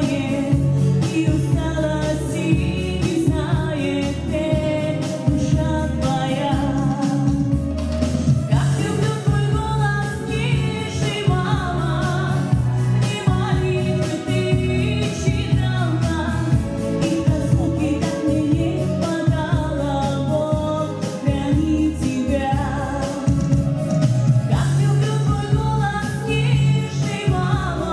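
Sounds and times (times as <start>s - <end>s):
music with singing voices: 0.0s - 27.9s.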